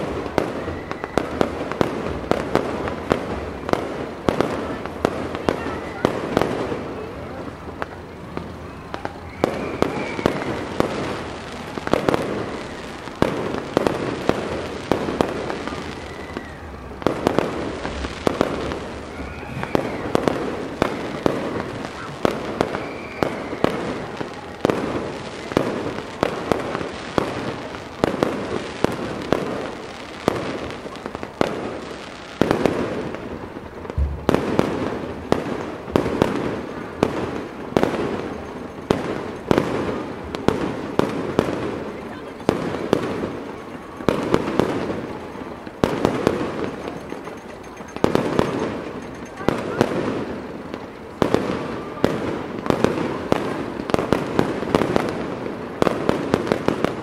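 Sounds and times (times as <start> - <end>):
fireworks bursting: 0.0 - 57.0
fireworks crackle: 0.0 - 57.0.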